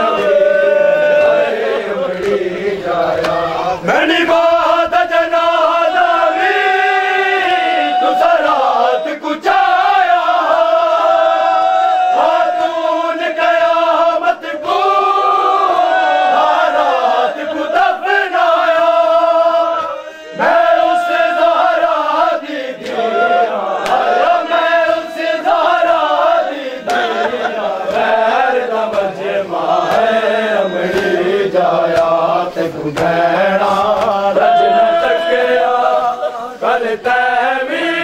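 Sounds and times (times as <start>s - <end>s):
men chanting in unison: 0.0s - 38.0s.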